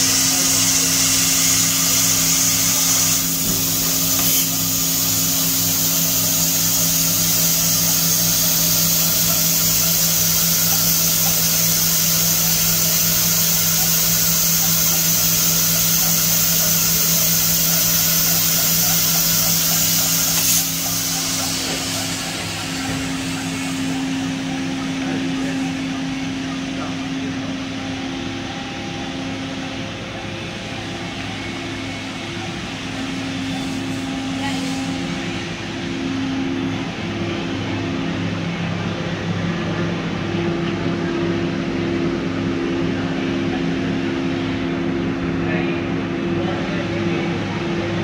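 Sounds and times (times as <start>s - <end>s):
pulsing machine hum: 0.0s - 48.0s
spindle high-pitched whine: 0.0s - 48.0s.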